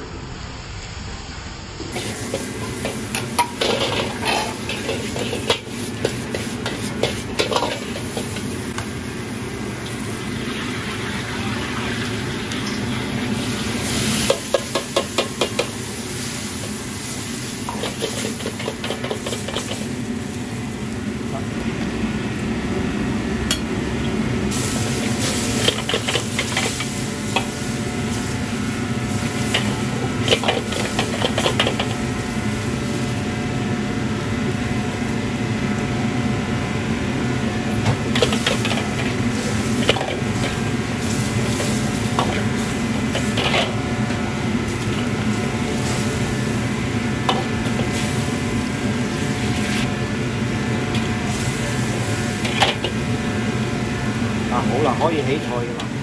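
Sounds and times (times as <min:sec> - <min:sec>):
kitchen extraction fan: 0:00.0 - 0:56.0
wok burner roaring: 0:00.0 - 0:56.0.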